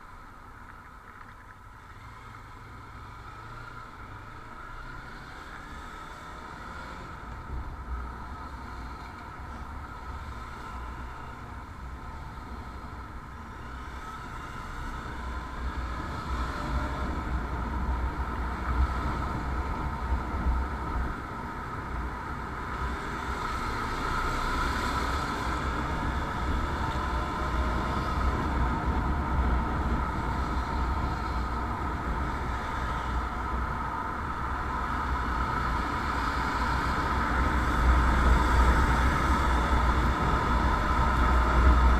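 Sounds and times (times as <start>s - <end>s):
road noise: 0.0s - 41.9s
wind rumbling on microphone: 7.0s - 41.9s.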